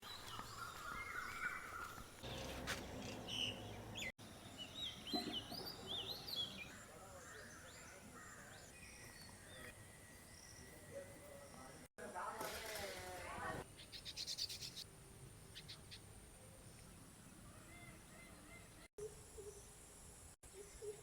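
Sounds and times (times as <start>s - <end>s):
small birds chirping: 0.0s - 11.9s, 13.6s - 21.0s
faint outdoor background noise: 0.0s - 21.0s.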